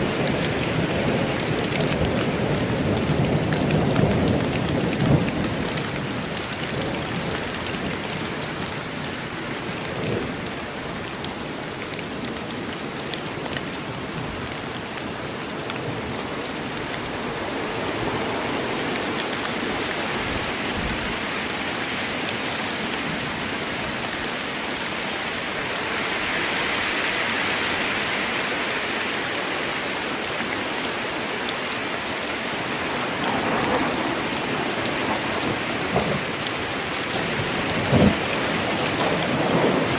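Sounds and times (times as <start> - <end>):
rain falling through forest: 0.0 - 39.9.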